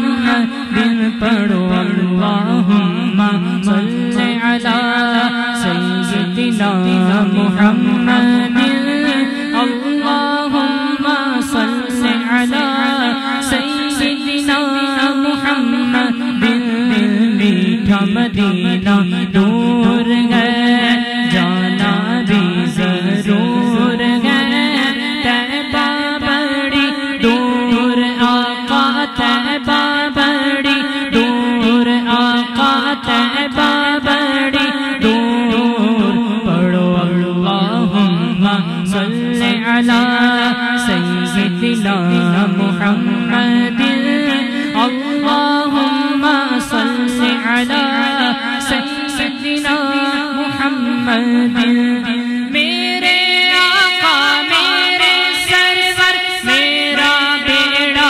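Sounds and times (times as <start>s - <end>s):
man singing: 0.0s - 58.0s
vocal drone: 0.0s - 58.0s.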